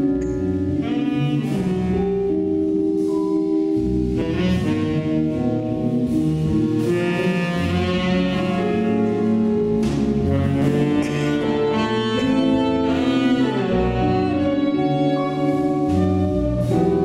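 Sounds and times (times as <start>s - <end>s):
small jazz ensemble playing: 0.0s - 17.0s.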